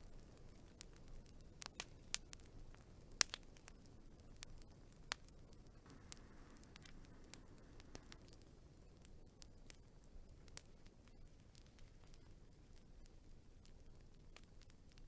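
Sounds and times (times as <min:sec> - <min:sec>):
faint low hiss: 0:00.0 - 0:15.0
wood fire crackling: 0:00.0 - 0:15.0.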